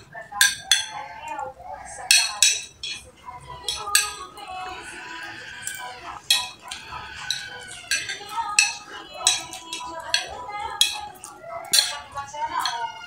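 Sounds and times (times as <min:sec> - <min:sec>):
spoons clinking on plates: 0:00.0 - 0:13.0.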